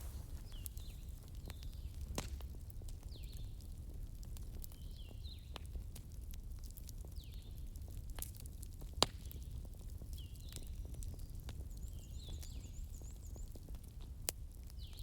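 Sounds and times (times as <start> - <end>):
low rumble of flames: 0.0 - 14.9
bonfire crackles and pops: 0.0 - 15.0.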